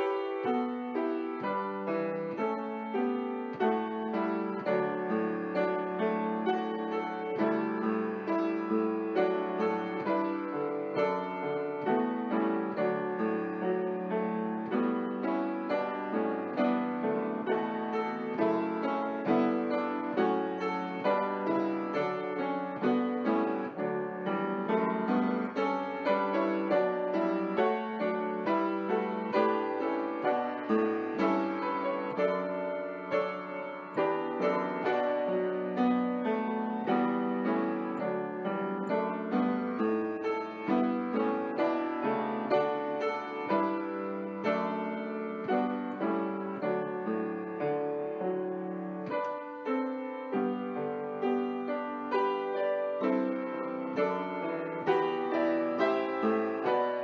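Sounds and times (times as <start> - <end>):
piano piece: 0.0 - 57.0.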